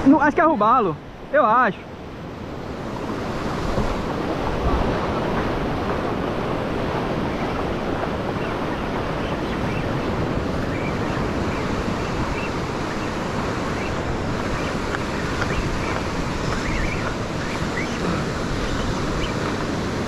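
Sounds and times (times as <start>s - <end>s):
ocean surf washing ashore: 0.0s - 20.0s
wind rumbling on microphone: 0.0s - 20.0s.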